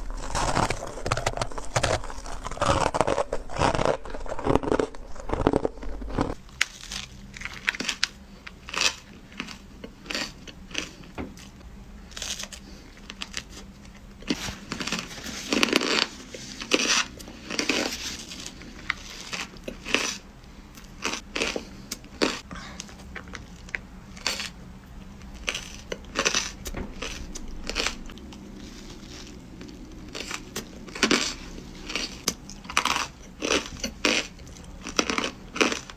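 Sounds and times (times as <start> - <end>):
crunching ice between teeth: 0.0 - 11.5, 12.1 - 22.5, 23.2 - 24.6, 25.2 - 35.9.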